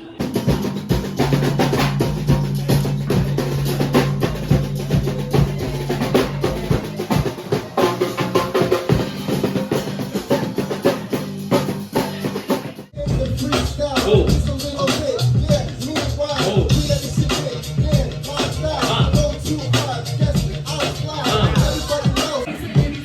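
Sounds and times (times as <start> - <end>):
kick drum and snare beat: 0.2 - 19.4, 20.2 - 23.0
low bass notes: 0.3 - 11.9, 13.0 - 23.0.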